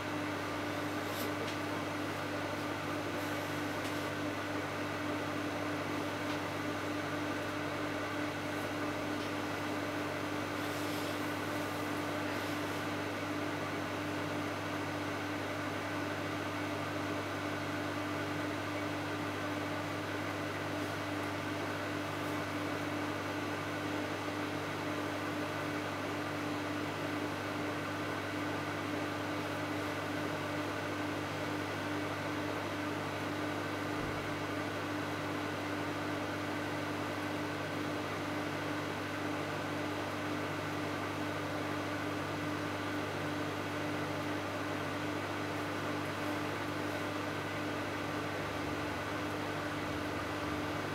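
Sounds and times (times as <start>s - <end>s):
microwave oven humming: 0.0s - 50.9s.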